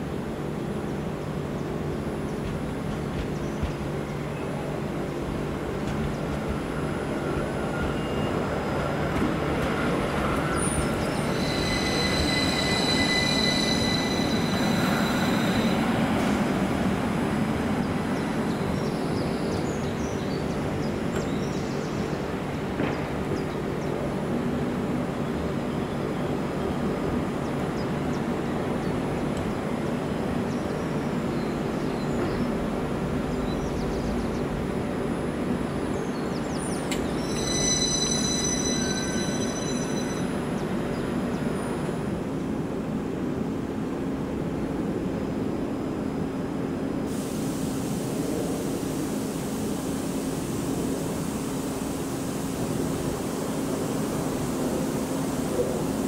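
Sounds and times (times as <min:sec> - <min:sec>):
train electrical hum: 0:00.0 - 0:56.0.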